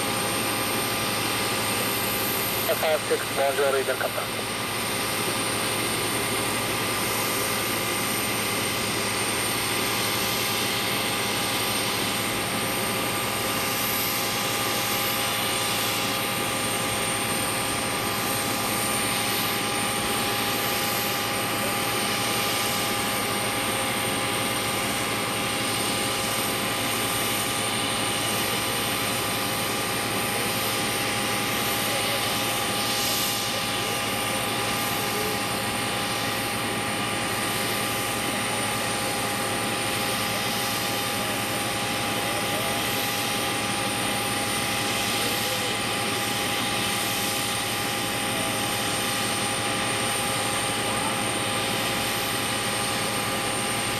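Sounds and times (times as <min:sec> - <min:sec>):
turbine whine: 0:00.0 - 0:53.9.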